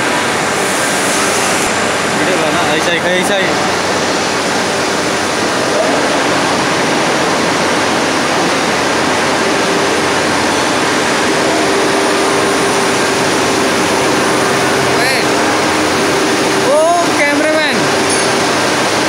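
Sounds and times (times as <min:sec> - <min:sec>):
machinery roaring: 0:00.0 - 0:19.0
steady hum: 0:00.0 - 0:19.0.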